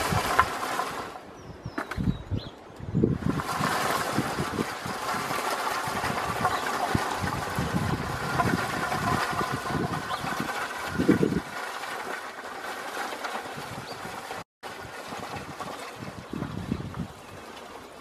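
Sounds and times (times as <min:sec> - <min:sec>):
wind buffeting microphone: 0:00.0 - 0:00.6, 0:01.3 - 0:11.6, 0:13.5 - 0:17.5.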